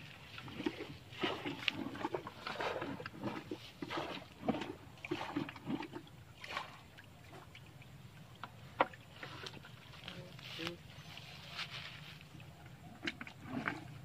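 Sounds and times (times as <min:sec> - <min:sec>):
water and mud splashing: 0:00.0 - 0:14.0.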